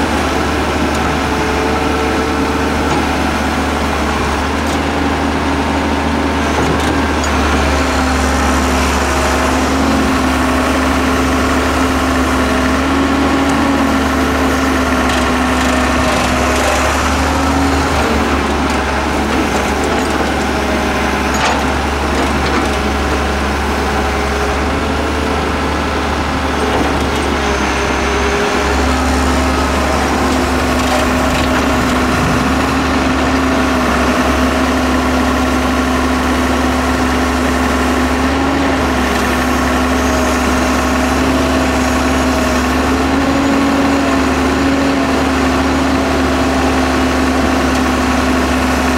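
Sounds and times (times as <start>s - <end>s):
excavator diesel engine droning: 0.0s - 48.9s.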